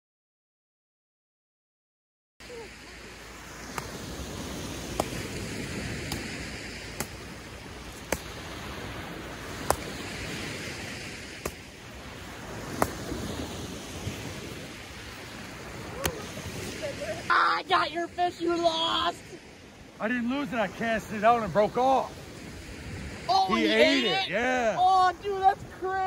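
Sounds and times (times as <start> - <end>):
small surf breaking: 2.4 - 26.0
wind hiss: 2.4 - 26.0.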